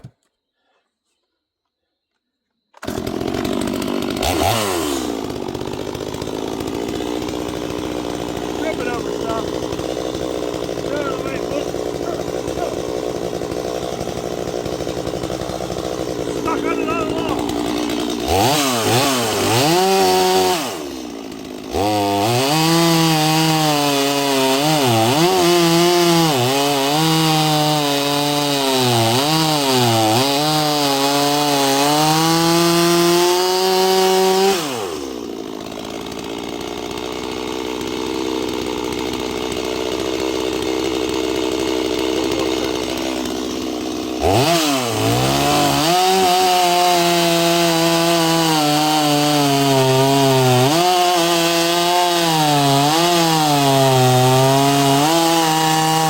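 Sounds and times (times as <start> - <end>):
chainsaw cutting through log: 2.8 - 56.0.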